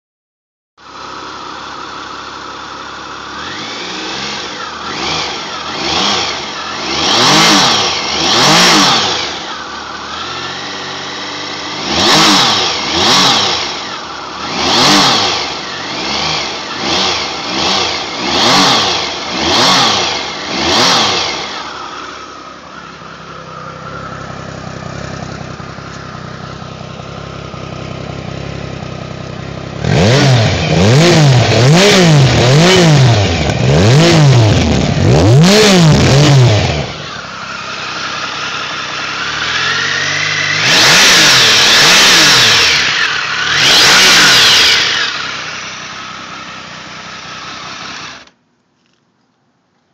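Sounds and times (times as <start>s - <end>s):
motorcycle engine idling and revving: 0.8s - 49.1s.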